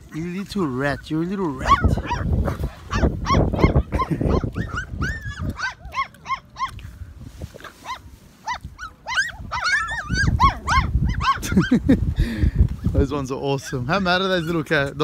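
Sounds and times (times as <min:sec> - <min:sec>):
puppies yelping and whining: 0:00.6 - 0:06.9, 0:07.6 - 0:11.9, 0:13.4 - 0:15.0.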